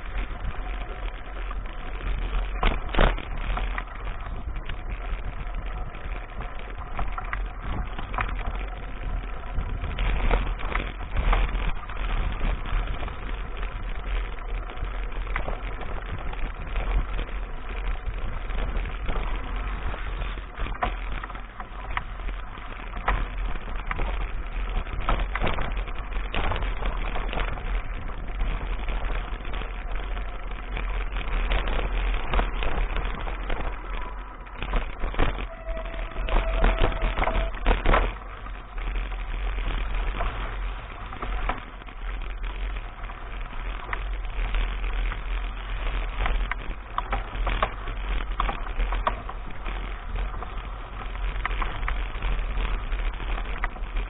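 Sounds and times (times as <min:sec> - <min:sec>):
bike knocks and rattles: 0:00.0 - 0:54.0
wind rumbling on microphone: 0:00.0 - 0:54.0.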